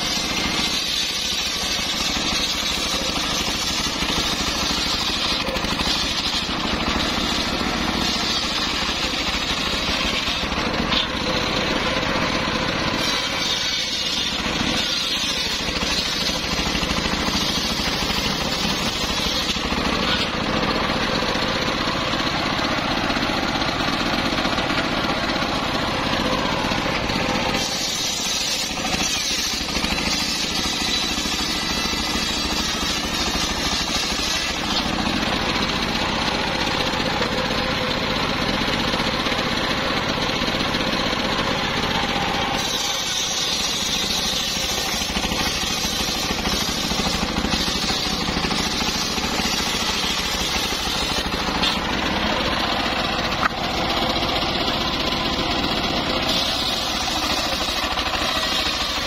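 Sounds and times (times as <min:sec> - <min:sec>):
circular saw ripping through log: 0:00.0 - 0:59.0
engine running under load: 0:00.0 - 0:59.0.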